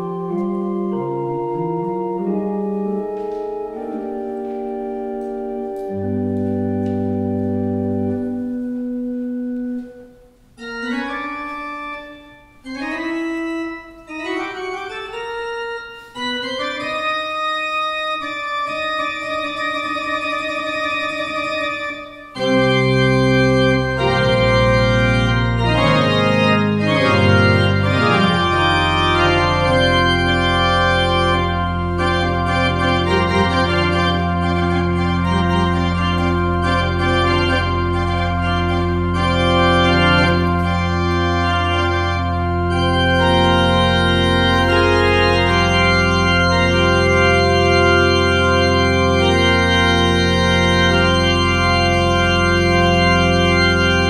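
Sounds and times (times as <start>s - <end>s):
low organ pedal note: 0.0s - 54.0s
pipe organ playing chords: 0.0s - 54.0s.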